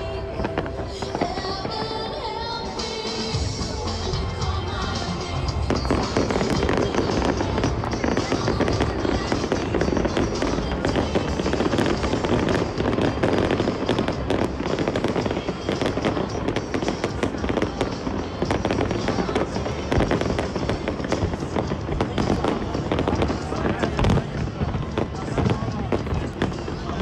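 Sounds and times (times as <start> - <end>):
fireworks bursting and crackling: 0.0 - 27.0
music playing: 0.0 - 27.0.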